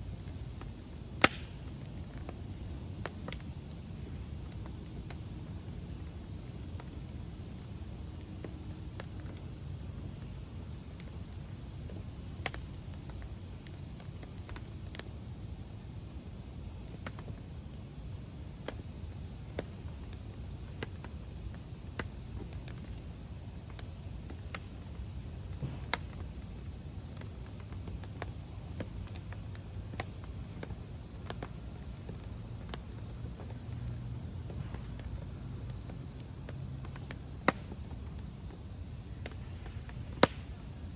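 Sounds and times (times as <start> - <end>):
crickets trilling: 0.0 - 40.9
low rumble of flames: 0.0 - 40.9
wood fire crackling and popping: 0.0 - 40.9.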